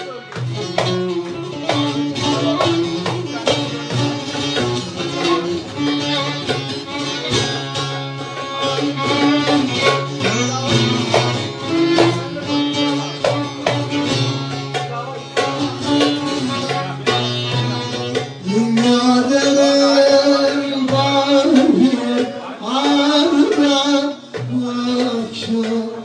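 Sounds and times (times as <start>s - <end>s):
plucked lute melody: 0.0s - 26.0s
sharp percussion strikes: 0.0s - 26.0s.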